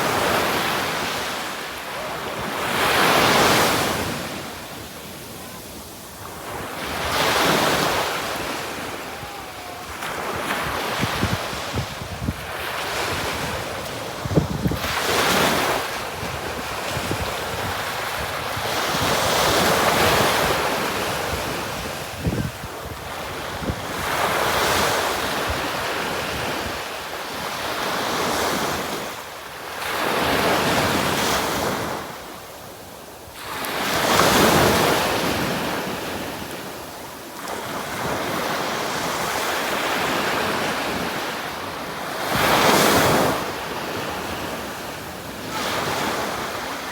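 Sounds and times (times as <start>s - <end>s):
waves breaking on a beach: 0.0s - 46.9s.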